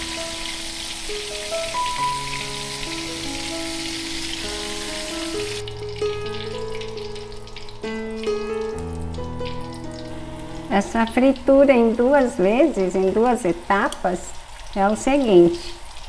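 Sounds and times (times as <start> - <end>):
background music: 0.0 - 13.3
meat deep-frying in hot oil: 0.0 - 16.0.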